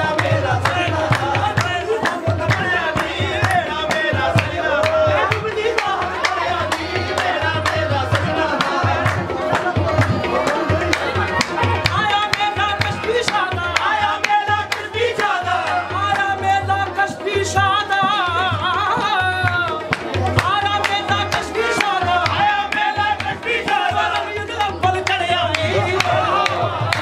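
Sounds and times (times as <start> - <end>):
lead and chorus voices singing: 0.0 - 27.0.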